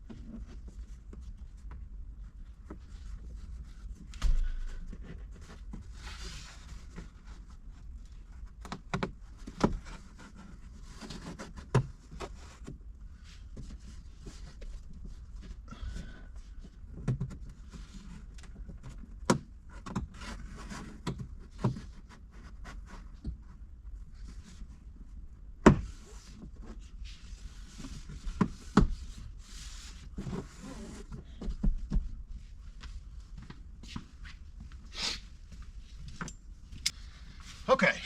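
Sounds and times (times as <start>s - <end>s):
hands rubbing and rustling cable: 0.0s - 15.7s, 16.3s - 37.9s.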